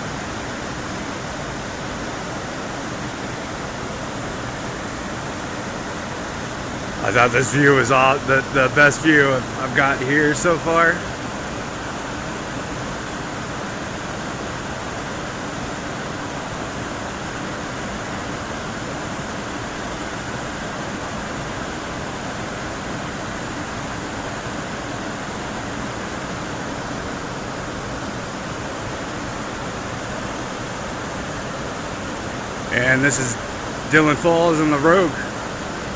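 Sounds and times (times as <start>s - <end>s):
waterfall and rapids rushing: 0.0s - 35.9s.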